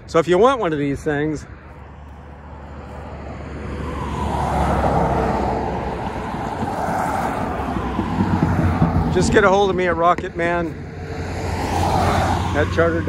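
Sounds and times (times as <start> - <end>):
vehicle passing on highway: 0.0 - 13.0.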